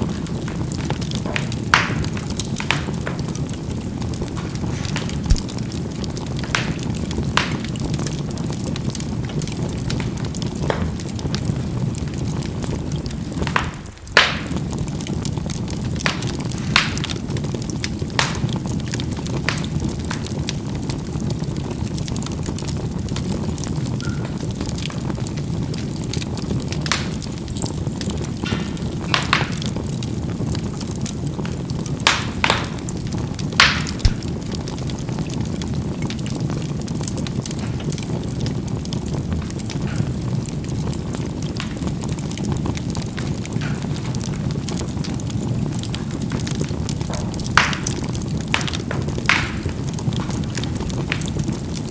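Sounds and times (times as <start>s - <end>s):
charcoal popping: 0.0s - 51.9s
fire rumbling: 0.0s - 51.9s.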